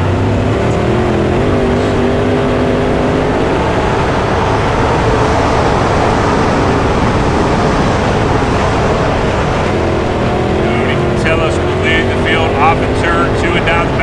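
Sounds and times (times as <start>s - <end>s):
race car engines at full throttle: 0.0s - 14.0s.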